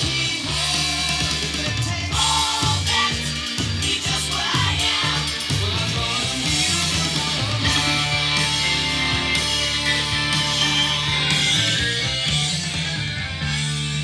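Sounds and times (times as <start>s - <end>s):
rock song with guitar: 0.0s - 14.0s.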